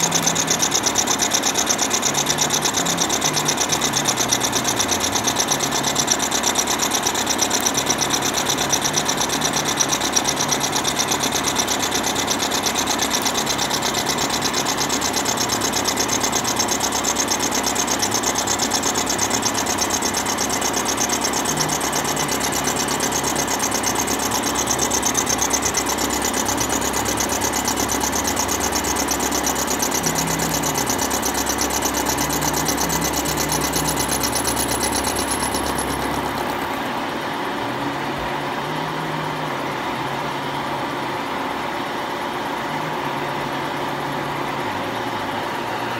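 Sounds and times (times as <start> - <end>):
end mill cutting metal: 0.0 - 37.1.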